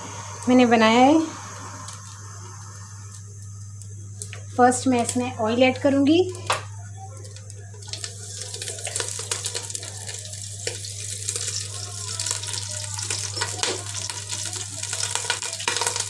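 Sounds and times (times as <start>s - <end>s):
oil hissing in pan: 0.0s - 6.6s, 7.2s - 16.0s
steady low hum: 0.0s - 16.0s
small crackles: 1.5s - 16.0s.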